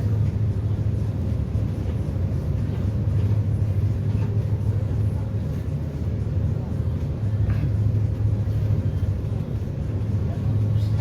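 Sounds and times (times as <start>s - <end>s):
ferry engines droning: 0.0s - 11.0s.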